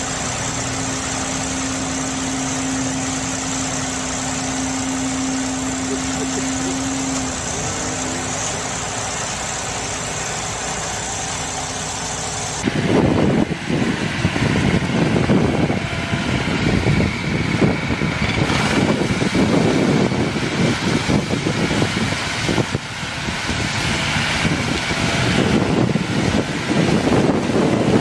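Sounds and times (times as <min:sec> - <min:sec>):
rough crawler tractor rumble: 0:00.0 - 0:28.0
vehicle engine running: 0:00.0 - 0:28.0.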